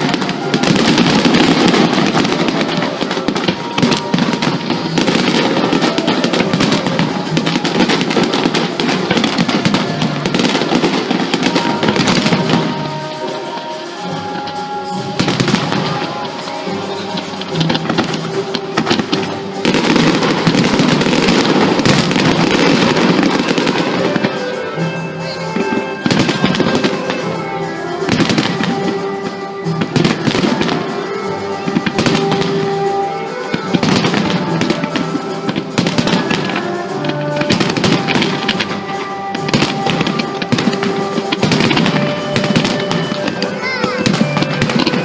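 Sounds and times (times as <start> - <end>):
fireworks bursting and crackling: 0.0 - 45.0
music playing: 0.0 - 45.0.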